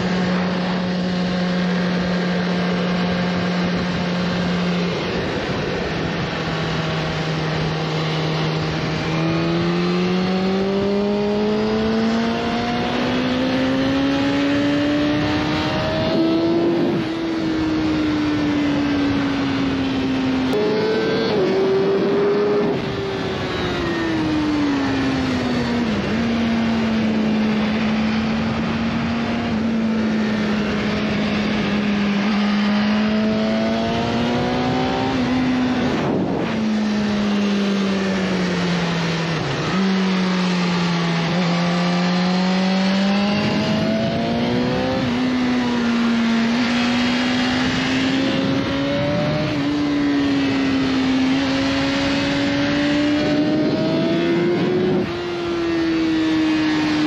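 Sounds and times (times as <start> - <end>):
wind rush: 0.0 - 57.0.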